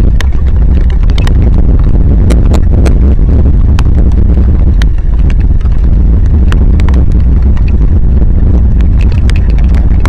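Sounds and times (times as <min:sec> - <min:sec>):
heavy rain: 0:00.0 - 0:10.0
raindrops ticking on microphone: 0:00.0 - 0:10.0.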